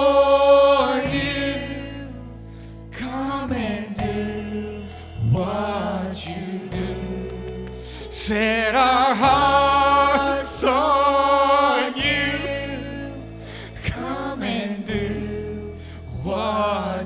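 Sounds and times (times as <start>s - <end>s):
acoustic guitar: 0.0s - 17.0s
low held chords: 0.0s - 17.0s
person singing: 3.0s - 17.0s.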